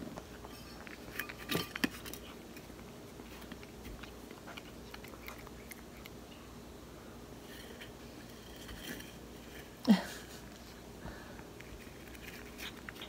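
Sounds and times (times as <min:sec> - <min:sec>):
cat chewing and licking food: 0:00.0 - 0:06.7, 0:07.4 - 0:13.0.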